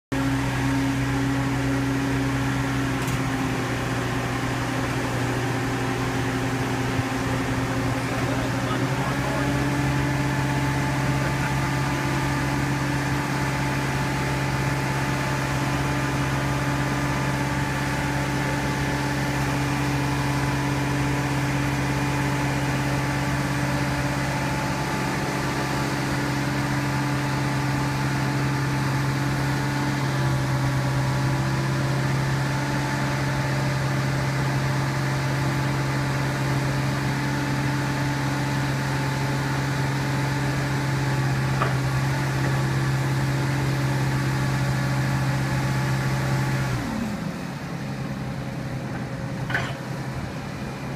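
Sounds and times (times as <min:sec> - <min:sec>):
forklift engine humming: 0:00.1 - 0:50.9.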